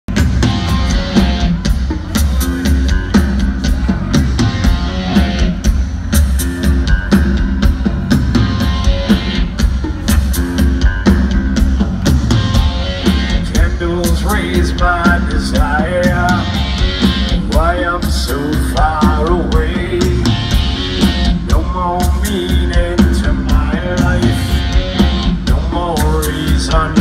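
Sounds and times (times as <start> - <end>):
driving drum beat: 0.0 - 27.0
live rock band playing: 0.1 - 27.0.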